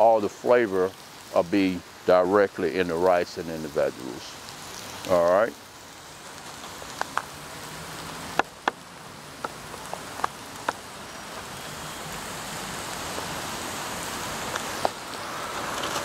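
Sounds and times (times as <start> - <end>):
fountain splashing: 0.0 - 16.0.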